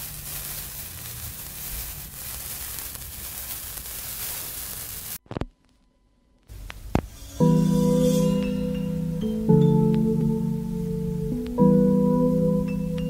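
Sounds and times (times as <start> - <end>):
static hiss with low rumble: 0.0 - 13.0.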